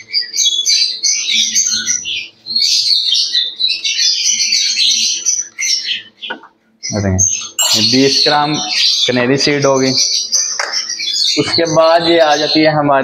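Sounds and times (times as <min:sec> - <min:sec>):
birds chattering and squawking: 0:00.0 - 0:13.0.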